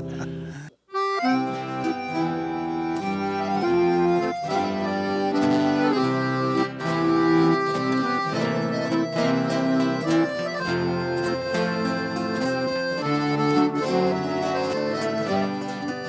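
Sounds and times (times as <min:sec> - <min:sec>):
accordion playing chords and melody: 0:00.0 - 0:16.0
plucked string accompaniment: 0:00.0 - 0:16.0.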